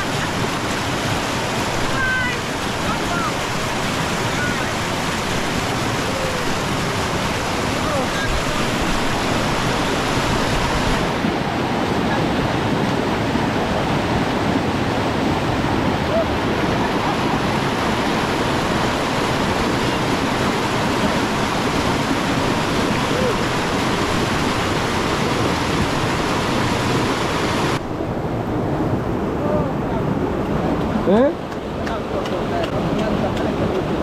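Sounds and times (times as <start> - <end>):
river water rushing over rocks: 0.0 - 34.0.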